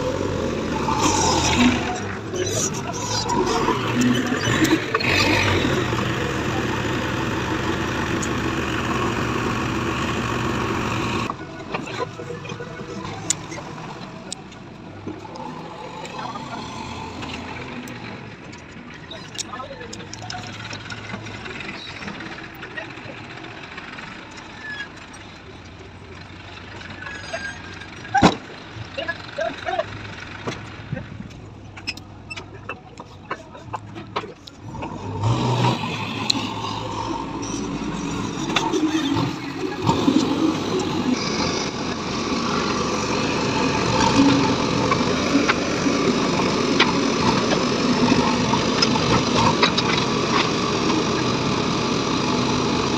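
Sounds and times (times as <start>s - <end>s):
diesel engine low hum: 0.0s - 52.9s.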